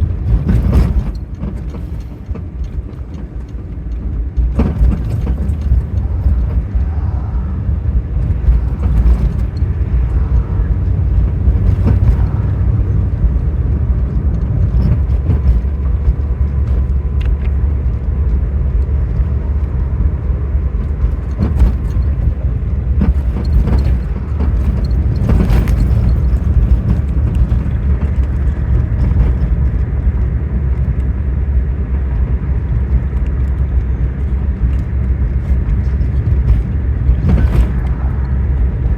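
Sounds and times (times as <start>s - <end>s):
road and engine rumble in car: 0.0s - 38.9s
thumps and knocks over rough road: 0.0s - 38.9s.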